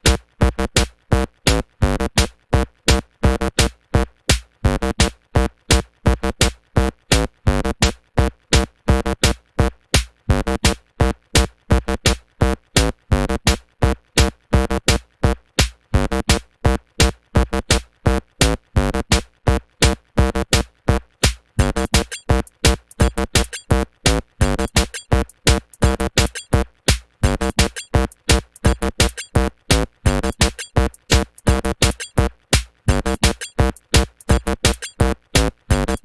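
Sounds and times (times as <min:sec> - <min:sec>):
electronic music with drum-machine beat: 0:00.0 - 0:03.7, 0:04.7 - 0:36.0.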